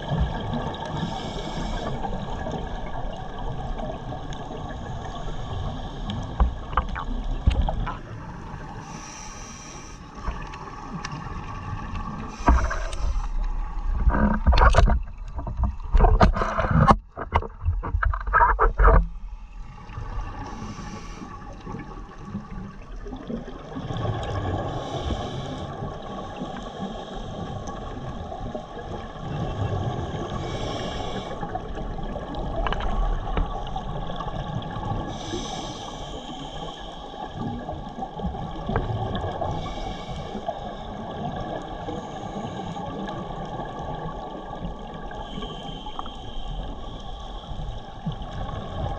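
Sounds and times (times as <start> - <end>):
scuba regulator breaths and bubbles: 0.0 - 48.9.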